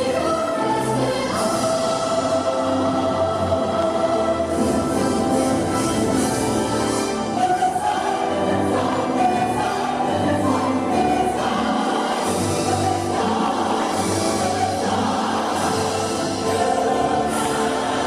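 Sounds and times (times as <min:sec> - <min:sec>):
choir singing held notes: 0:00.0 - 0:18.0
soundtrack music: 0:00.0 - 0:18.0.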